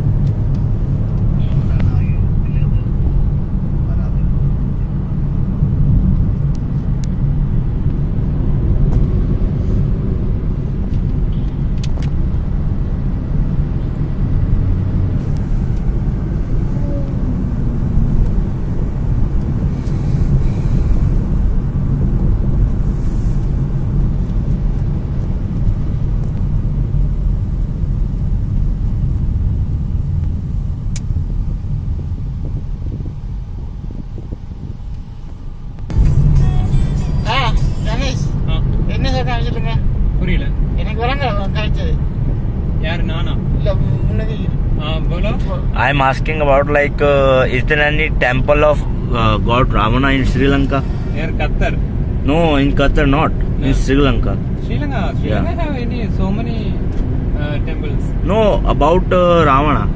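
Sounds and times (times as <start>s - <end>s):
car driving rumble from inside: 0.0s - 59.9s.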